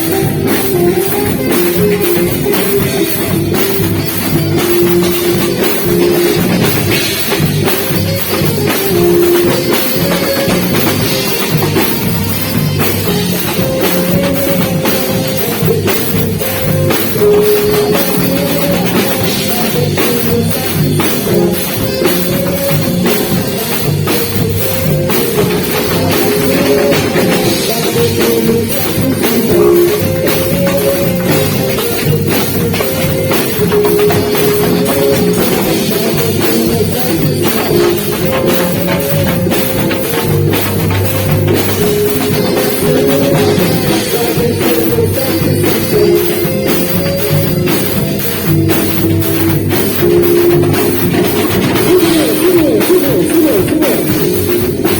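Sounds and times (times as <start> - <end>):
drum kit steady beat: 0.0 - 54.9
saxophone melody: 0.0 - 54.9.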